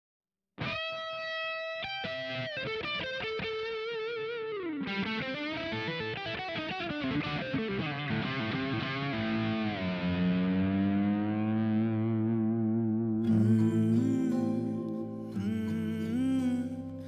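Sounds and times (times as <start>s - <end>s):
instrumental music with guitar lead: 0.6s - 17.0s.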